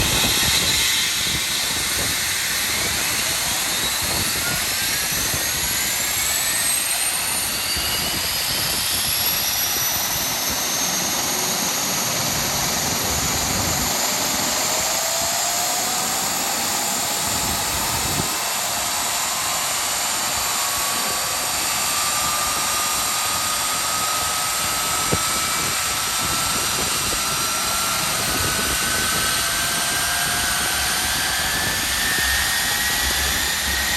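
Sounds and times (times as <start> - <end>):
jet engine spooling up: 0.0 - 33.9.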